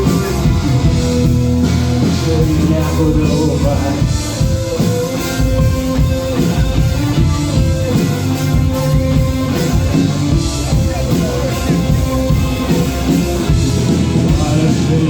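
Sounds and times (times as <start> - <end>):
drum kit beat: 0.0 - 15.0
instrumental rock band: 0.0 - 15.0.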